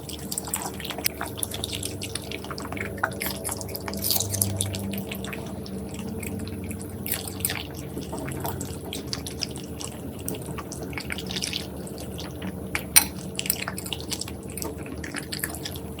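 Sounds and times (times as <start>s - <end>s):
dog chewing wet food: 0.0s - 16.0s.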